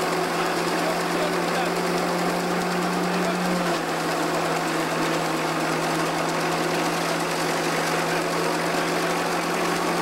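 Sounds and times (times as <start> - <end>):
threshing mill humming: 0.0 - 10.0.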